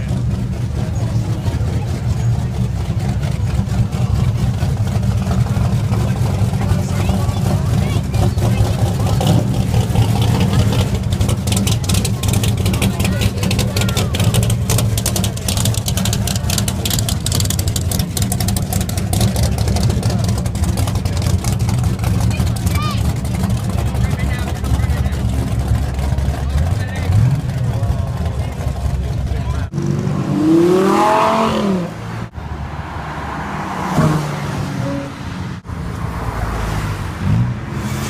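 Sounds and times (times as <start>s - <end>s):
car engine idling: 0.0s - 33.8s.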